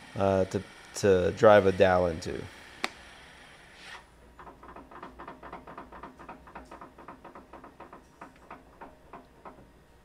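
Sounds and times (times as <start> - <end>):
lathe low hum: 0.0 - 10.0.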